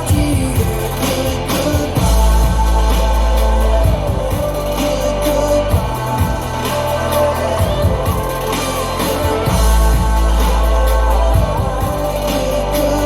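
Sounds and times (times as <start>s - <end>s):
music with heavy bass and drums: 0.0s - 13.0s
person singing: 0.0s - 13.0s.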